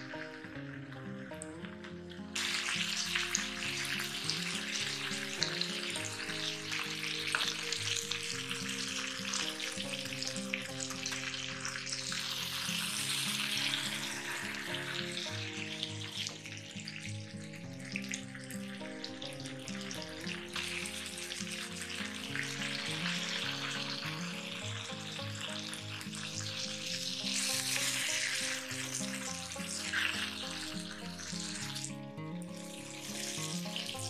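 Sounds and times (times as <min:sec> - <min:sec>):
background music: 0:00.0 - 0:34.0
chicken sizzling in oil: 0:00.0 - 0:34.0.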